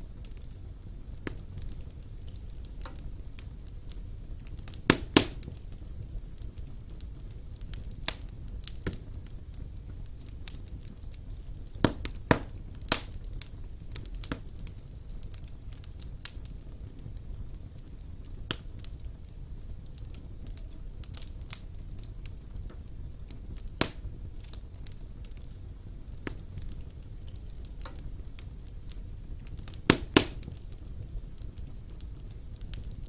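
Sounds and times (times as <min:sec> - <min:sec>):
logs crackling and popping: 0:00.0 - 0:33.0
low rumble of flames: 0:00.0 - 0:33.0.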